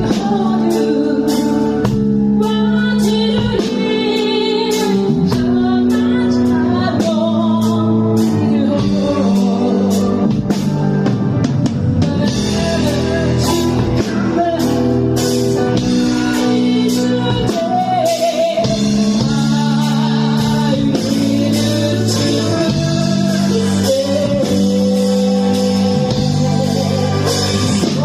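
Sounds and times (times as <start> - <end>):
band music with singing: 0.0 - 28.0.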